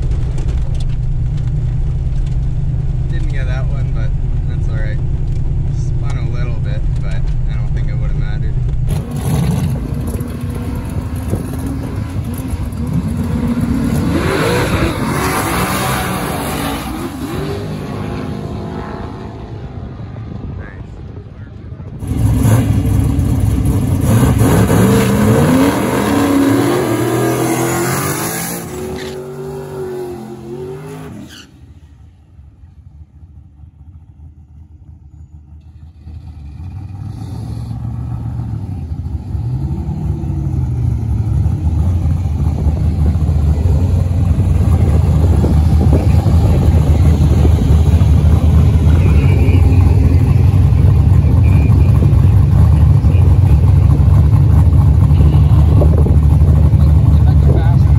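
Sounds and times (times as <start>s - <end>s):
deep engine rumble: 0.0s - 57.9s
drag cars accelerating: 3.1s - 57.9s.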